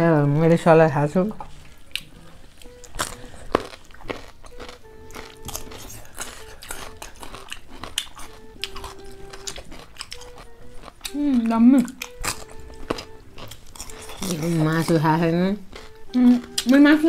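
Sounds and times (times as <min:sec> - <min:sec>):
soft background music: 0:00.0 - 0:17.0
crunchy chewing of cucumber: 0:01.4 - 0:16.8.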